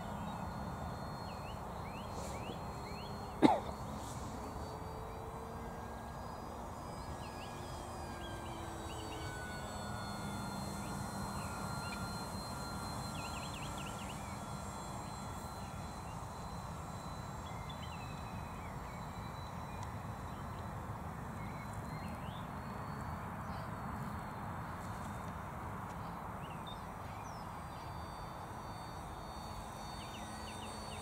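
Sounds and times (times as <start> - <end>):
small birds chirping: 0.0 - 25.1
model plane motor droning overhead: 0.0 - 31.0.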